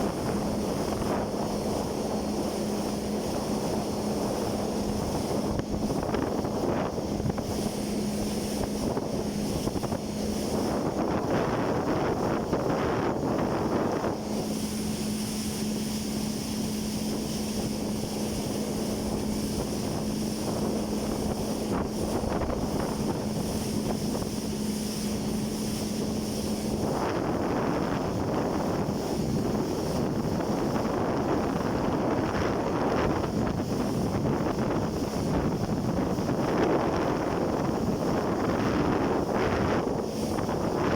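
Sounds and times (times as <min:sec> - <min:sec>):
jet ski engine running: 0:00.0 - 0:40.9
water noise: 0:00.0 - 0:40.9
wind buffeting microphone: 0:00.0 - 0:40.9.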